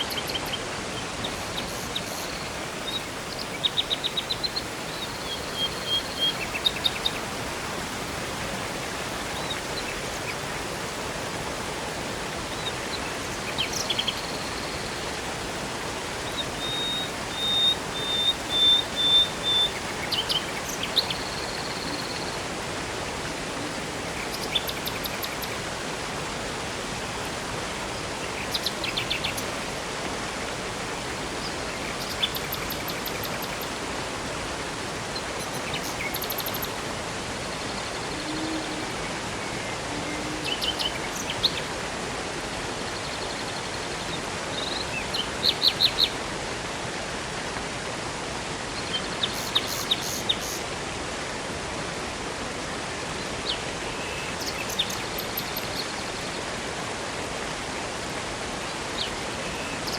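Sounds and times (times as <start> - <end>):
songbirds calling: 0.0 - 46.2, 48.8 - 50.6, 53.4 - 56.4, 58.7 - 59.9
river water rushing: 0.0 - 59.9.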